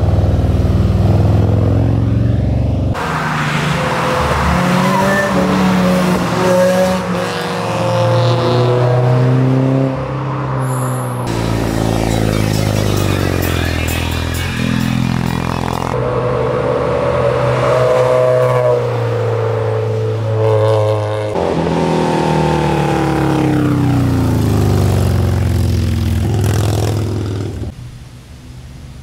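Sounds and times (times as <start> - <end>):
motorcycles passing at speed: 0.0 - 27.8.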